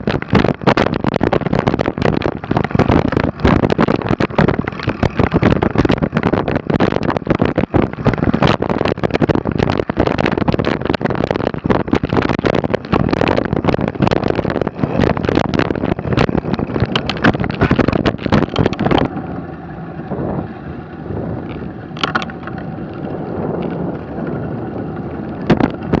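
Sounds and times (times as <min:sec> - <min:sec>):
bike rattling over rough ground: 0:00.0 - 0:26.0
wind buffeting microphone: 0:00.0 - 0:26.0.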